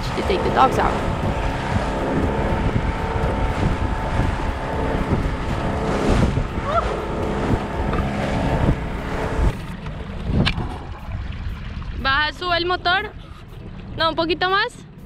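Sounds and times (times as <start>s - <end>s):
water rushing past hull: 0.0s - 14.6s
wind buffeting microphone: 0.0s - 14.7s
outboard motor running: 0.0s - 15.0s.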